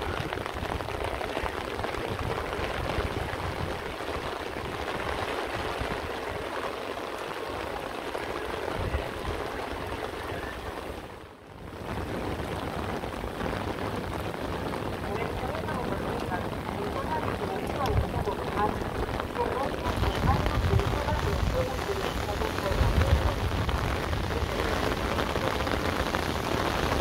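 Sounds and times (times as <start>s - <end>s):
rain on standing water: 0.0s - 27.0s.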